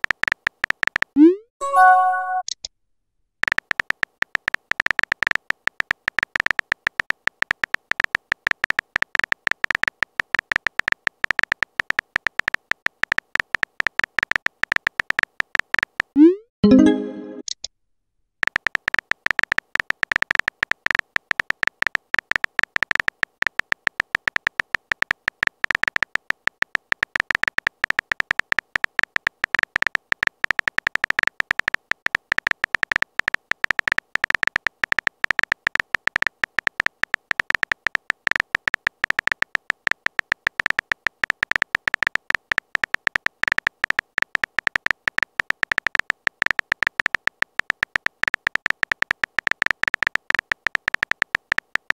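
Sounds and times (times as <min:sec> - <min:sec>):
phone keyboard typing ticks: 0:00.0 - 0:02.7, 0:03.4 - 0:17.7, 0:18.4 - 0:51.9.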